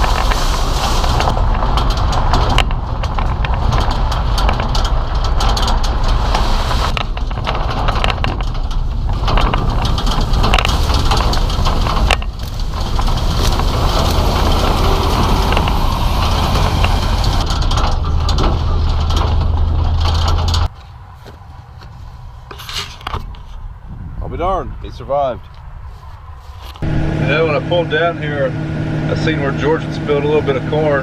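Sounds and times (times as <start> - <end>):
wind noise on microphone: 0.0 - 20.7, 22.2 - 26.9
truck engine and road rumble: 0.0 - 31.0.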